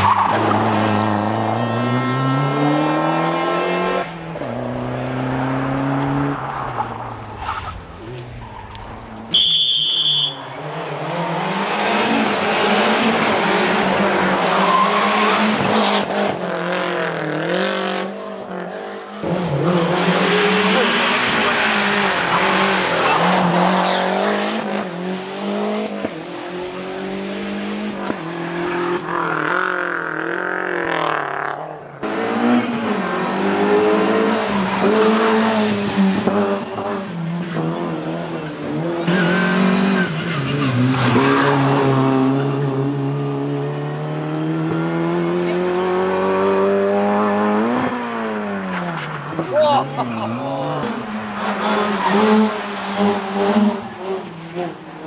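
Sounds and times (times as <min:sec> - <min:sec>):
rally car engines passing: 0:00.0 - 0:09.4, 0:10.4 - 0:55.0.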